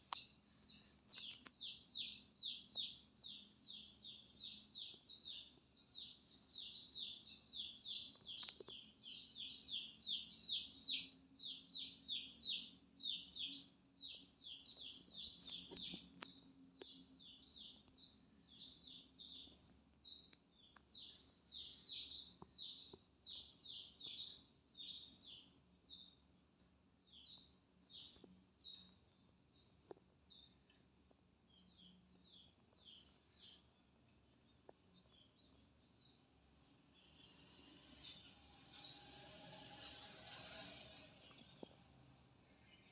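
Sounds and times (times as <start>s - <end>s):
chicks peeping: 0.0s - 26.3s, 27.0s - 36.2s, 36.9s - 39.0s.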